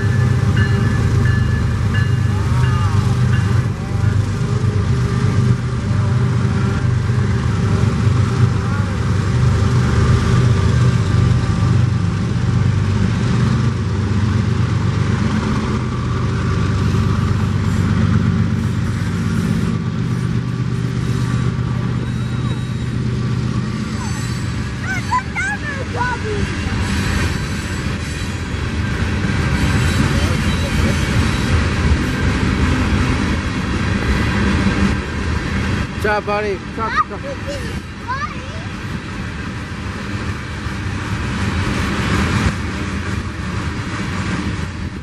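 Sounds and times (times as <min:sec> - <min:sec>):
diesel locomotive engines droning: 0:00.0 - 0:45.0
train wheels rumbling on rails: 0:00.0 - 0:45.0.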